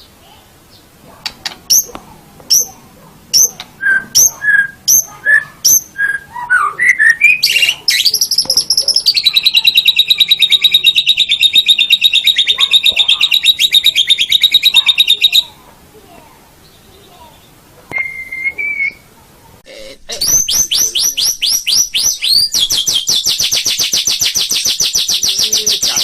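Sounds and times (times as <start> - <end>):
bird singing whistled notes and trills: 2.5 - 15.6, 16.6 - 19.1, 20.2 - 26.0.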